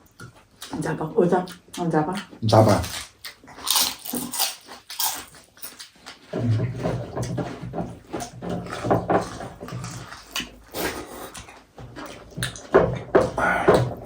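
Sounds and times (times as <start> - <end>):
person slurping and chewing: 2.3 - 14.0.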